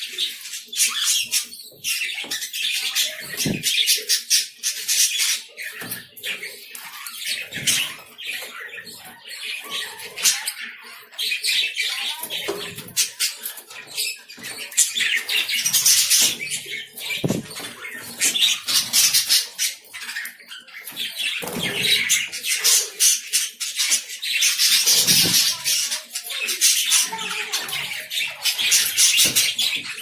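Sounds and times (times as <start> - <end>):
lovebirds chattering: 0.0 - 30.0.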